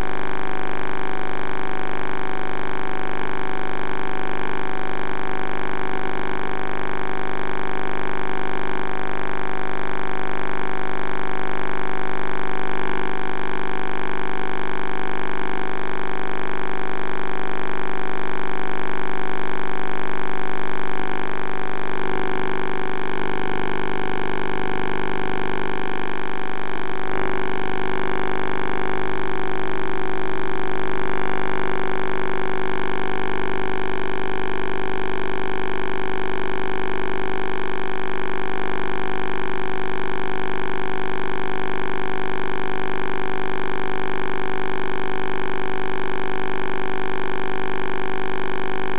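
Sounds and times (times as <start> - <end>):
electrical hum and buzz: 0.0 - 48.9.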